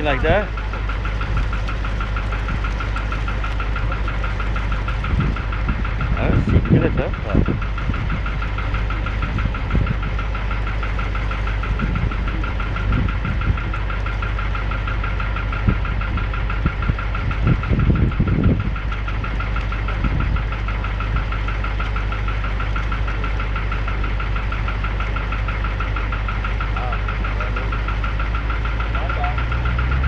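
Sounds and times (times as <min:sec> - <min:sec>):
car engine idling: 0:00.0 - 0:30.0
low bumps: 0:00.0 - 0:30.0.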